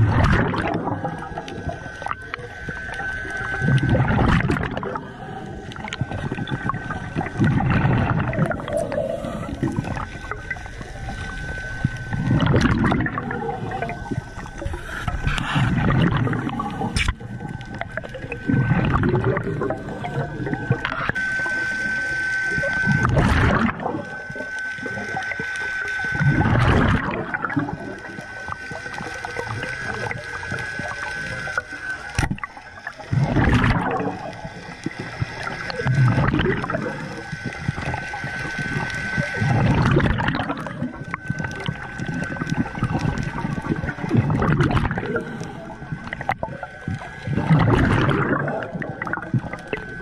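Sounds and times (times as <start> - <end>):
diver exhaling bubbles: 0.0 - 2.4, 3.0 - 21.5, 22.6 - 24.2, 26.1 - 28.2, 32.2 - 50.0
thin high whine: 0.0 - 50.0.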